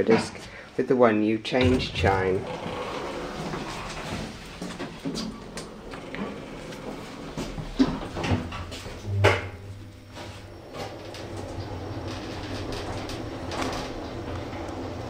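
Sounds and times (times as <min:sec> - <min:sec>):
lift car humming: 0:01.6 - 0:15.0
lift doors sliding shut with thud: 0:01.6 - 0:15.0.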